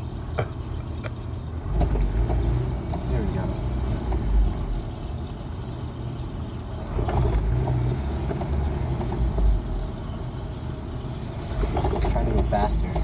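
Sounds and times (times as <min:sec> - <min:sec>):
car engine running: 0:00.0 - 0:13.0
road noise inside cab: 0:00.0 - 0:13.0.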